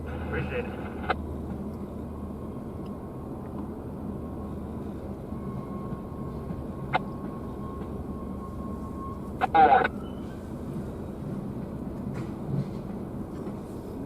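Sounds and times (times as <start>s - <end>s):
diesel locomotive rumble: 0.0s - 14.0s.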